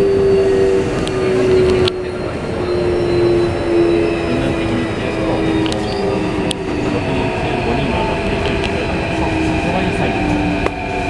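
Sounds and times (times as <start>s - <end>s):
train inverter and motor hum: 0.0s - 11.0s
wheels rumbling on rails: 0.0s - 11.0s.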